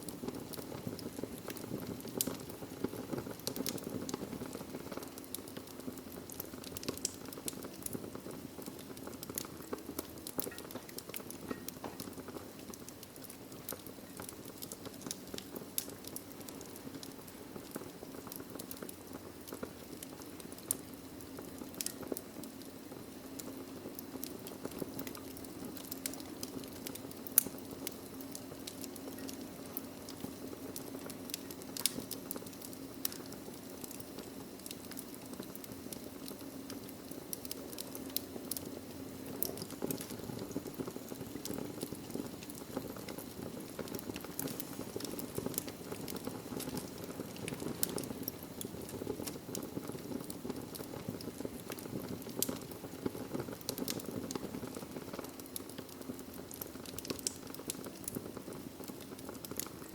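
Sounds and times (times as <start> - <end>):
fire crackling and popping: 0.0 - 59.9
flames hissing: 0.0 - 59.9.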